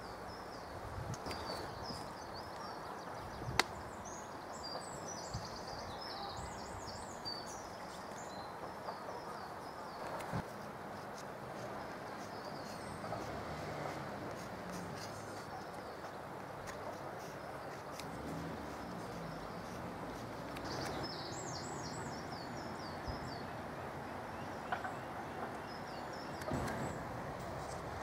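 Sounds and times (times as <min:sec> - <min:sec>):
songbird chirping: 0:00.0 - 0:10.7, 0:11.6 - 0:28.0
outdoor background hiss: 0:00.0 - 0:28.0.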